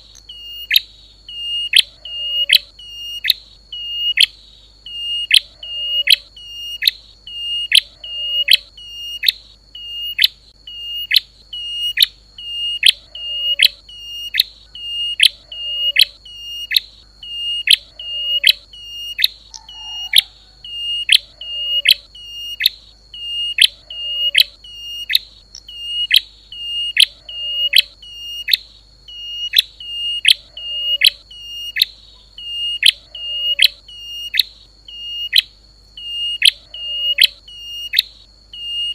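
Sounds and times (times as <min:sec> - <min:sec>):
steady high-pitched whine: 0:00.0 - 0:38.9.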